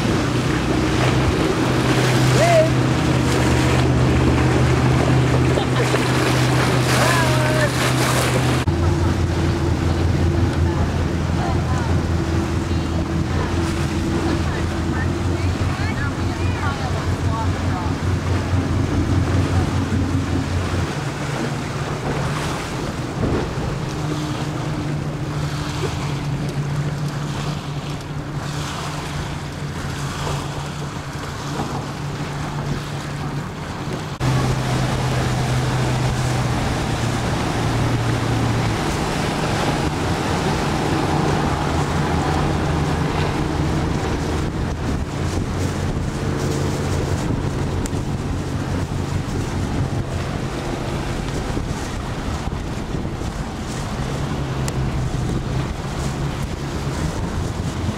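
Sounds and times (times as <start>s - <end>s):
water noise from boat: 0.0s - 57.9s
wind buffeting microphone: 0.0s - 57.9s.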